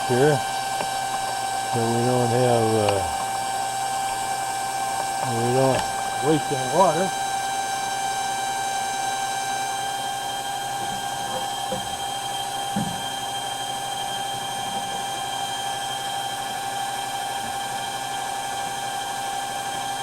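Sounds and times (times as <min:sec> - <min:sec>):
electric pump motor whine: 0:00.0 - 0:20.0.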